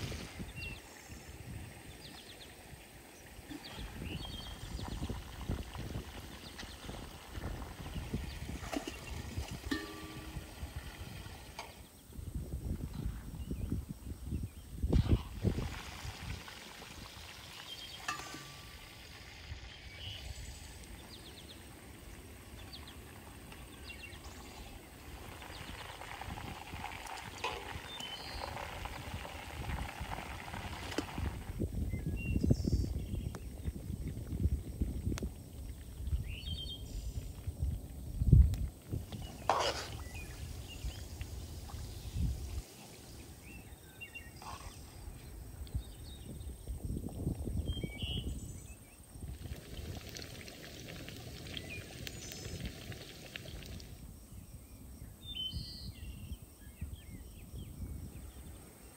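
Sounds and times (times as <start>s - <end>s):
wind rumble on microphone: 0.0s - 18.6s, 19.5s - 58.9s.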